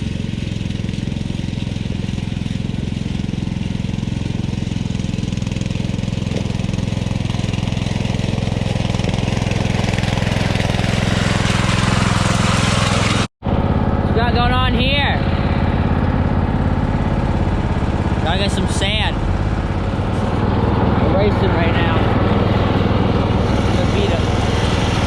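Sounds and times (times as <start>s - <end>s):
lawn tractor engine running: 0.0s - 25.0s.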